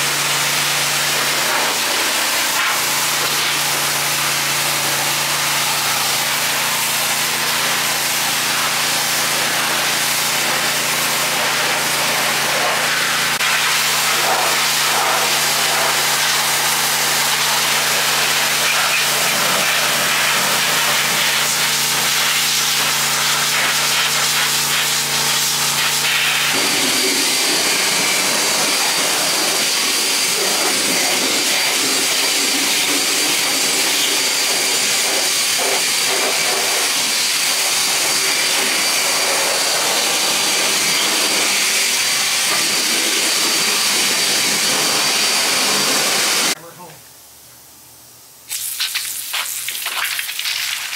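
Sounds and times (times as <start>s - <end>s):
washer motor hum: 0.0s - 46.5s
leaf blower rushing air: 0.0s - 46.6s
pressure washer spray hissing: 0.0s - 46.6s, 48.5s - 50.9s.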